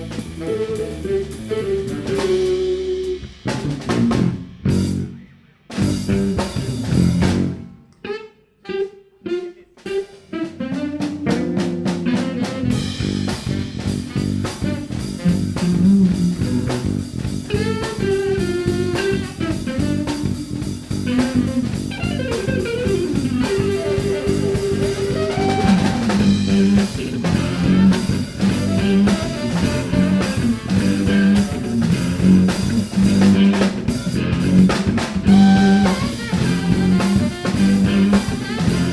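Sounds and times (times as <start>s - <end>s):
jazz band playing live: 0.0s - 5.1s, 5.7s - 38.9s
drum kit: 0.0s - 7.8s, 9.7s - 38.9s
electric guitar: 0.0s - 38.9s.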